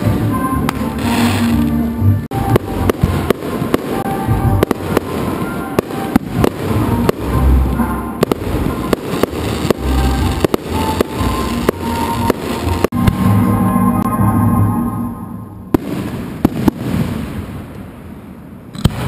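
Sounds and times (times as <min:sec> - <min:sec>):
fireworks sharp bangs: 0:00.0 - 0:13.8, 0:15.7 - 0:19.0.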